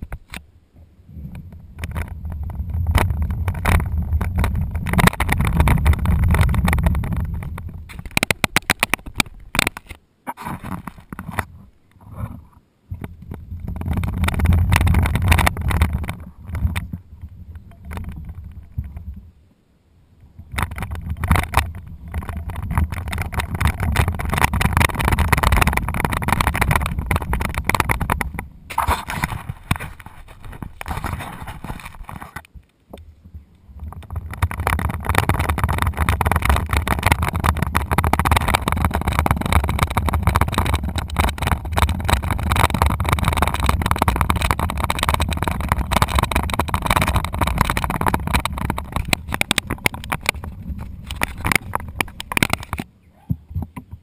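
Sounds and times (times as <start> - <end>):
wagon wheels rumbling on concrete: 1.1 - 19.4, 20.3 - 32.5, 33.2 - 54.0
plastic wagon body rattling: 1.4 - 11.5, 13.0 - 19.2, 20.4 - 32.5, 33.7 - 52.9.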